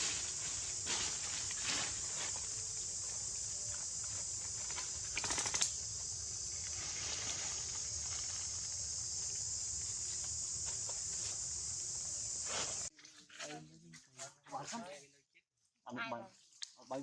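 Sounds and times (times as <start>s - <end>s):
insect chorus buzzing: 0.0s - 12.9s, 15.9s - 17.0s.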